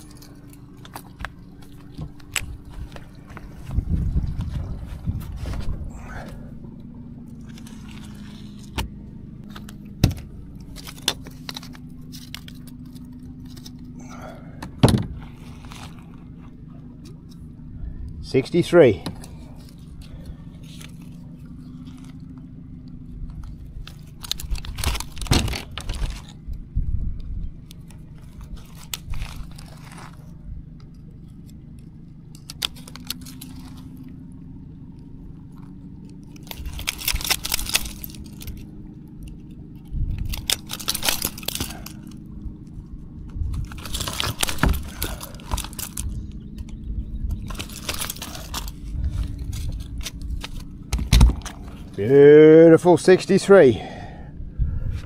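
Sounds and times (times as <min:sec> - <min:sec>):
low steady hum: 0:00.0 - 0:55.0
rattling and scraping in boat: 0:00.0 - 0:55.0.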